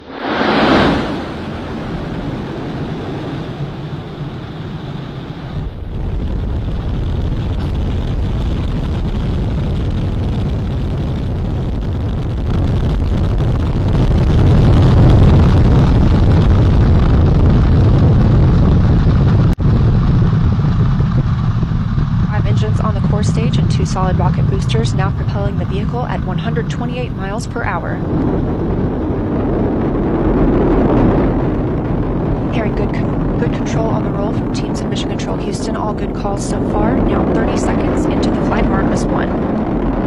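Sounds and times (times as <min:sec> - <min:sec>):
rocket engines rumbling: 0:00.0 - 0:40.0.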